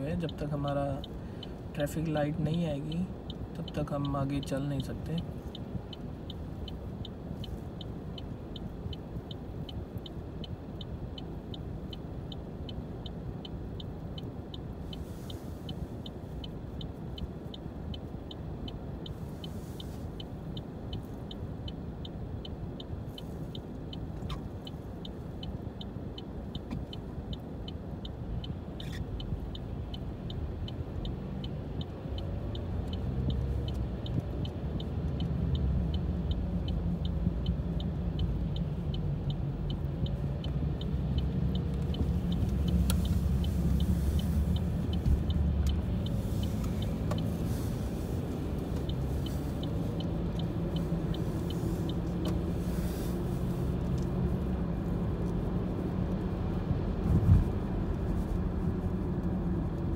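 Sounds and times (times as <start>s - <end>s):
car engine and tyre noise: 0.0s - 59.9s
turn signal ticking: 0.0s - 59.9s.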